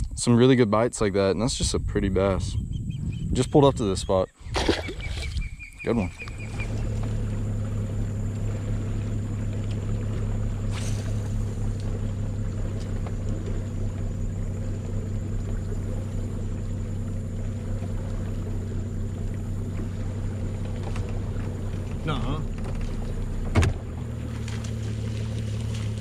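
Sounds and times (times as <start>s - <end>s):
boat motor humming: 3.8s - 26.0s.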